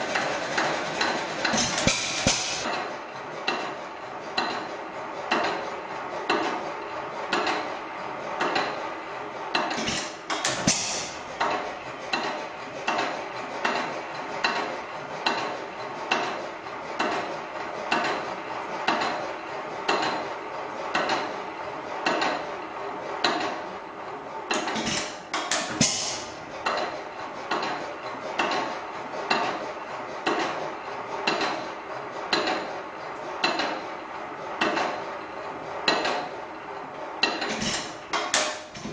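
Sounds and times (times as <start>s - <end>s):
stationary engine clanking: 0.0s - 38.9s.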